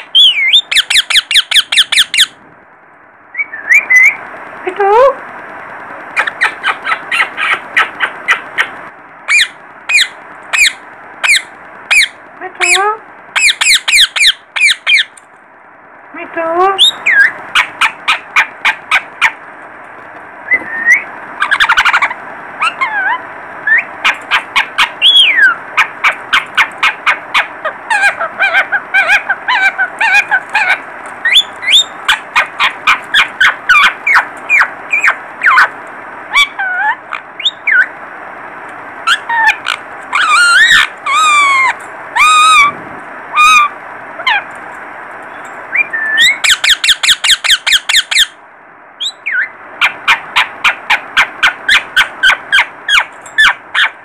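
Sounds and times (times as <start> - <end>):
parakeets squawking: 0.0 - 2.4, 3.4 - 4.2, 6.1 - 15.2, 16.8 - 19.4, 20.5 - 38.0, 39.0 - 44.6, 45.3 - 48.4, 49.0 - 54.0
parakeets whistled calls: 0.0 - 2.4, 3.3 - 4.2, 6.2 - 8.7, 9.3 - 15.2, 16.8 - 19.4, 20.5 - 35.7, 36.3 - 37.9, 39.0 - 42.7, 43.3 - 44.5, 45.3 - 48.4, 49.0 - 54.0.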